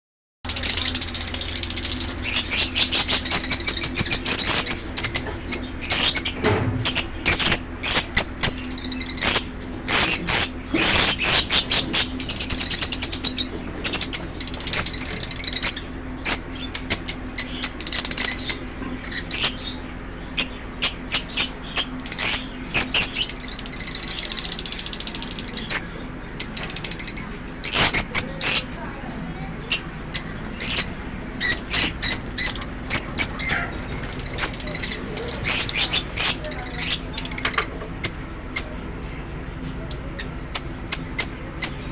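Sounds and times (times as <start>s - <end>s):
lovebirds chirping and squeaking: 0.5s - 41.9s
steady low hum: 0.5s - 41.9s.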